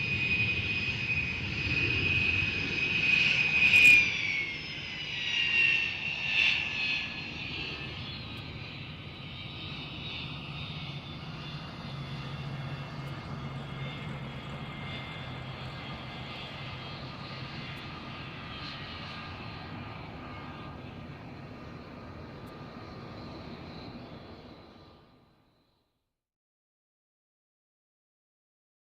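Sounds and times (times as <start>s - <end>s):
low jet engine rumble: 0.0s - 25.4s
jet turbine whine: 0.0s - 25.7s.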